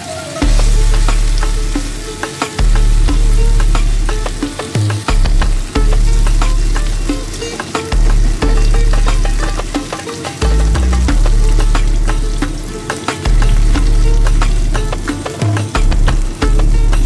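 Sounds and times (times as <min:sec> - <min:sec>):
food sizzling in oil: 0:00.0 - 0:17.0
deep bass music notes: 0:00.4 - 0:17.0.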